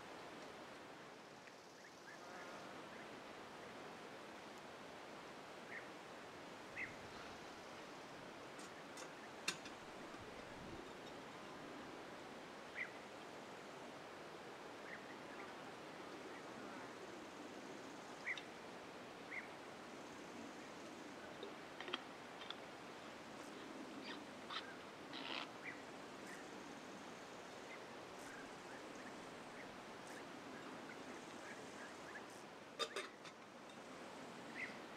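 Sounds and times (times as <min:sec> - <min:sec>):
faint steady hiss: 0:00.0 - 0:34.9.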